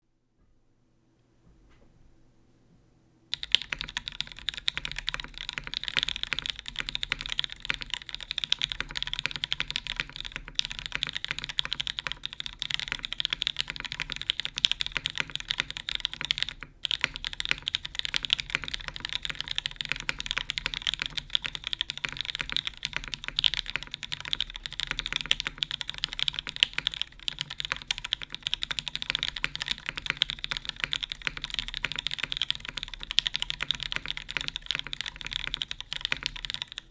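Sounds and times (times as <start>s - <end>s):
mechanical keyboard typing: 3.3s - 36.9s.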